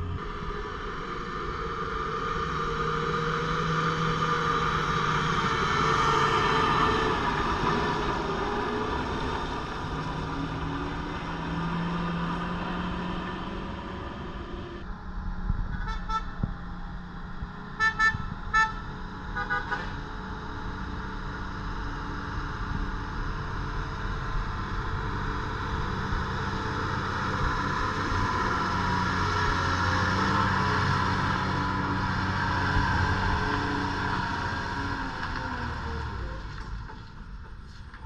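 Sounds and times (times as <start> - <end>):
lorry engine under load: 0.0 - 38.0.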